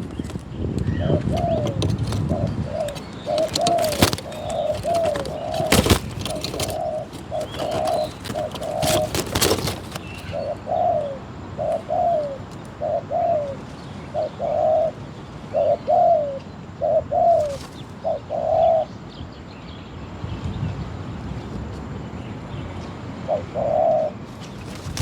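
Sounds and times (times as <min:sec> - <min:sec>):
dove cooing: 0:00.0 - 0:18.9, 0:23.2 - 0:25.0.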